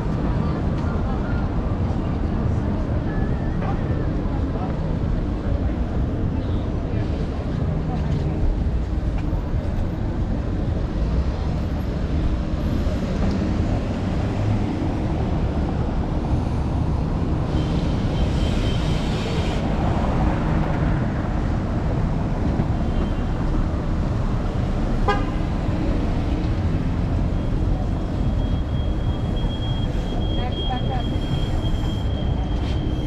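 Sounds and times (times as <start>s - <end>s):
city street traffic rumble: 0.0s - 33.0s.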